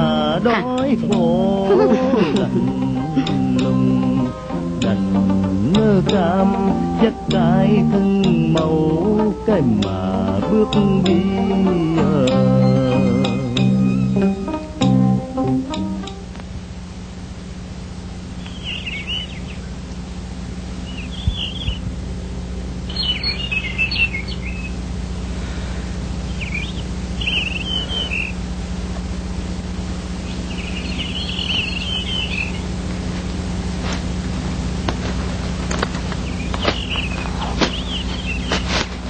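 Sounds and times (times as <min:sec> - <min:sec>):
birds chirping: 0:00.0 - 0:16.2, 0:17.8 - 0:39.0
low hum: 0:00.0 - 0:39.0.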